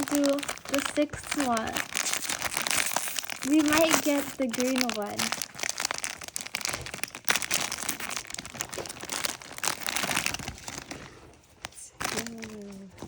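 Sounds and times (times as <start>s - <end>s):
packaging rustling and crackling: 0.0s - 13.0s.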